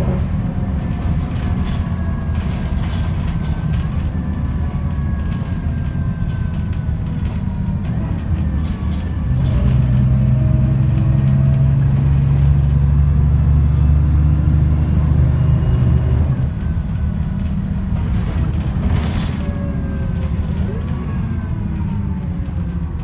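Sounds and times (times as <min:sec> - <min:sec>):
bus diesel engine droning: 0:00.0 - 0:23.0.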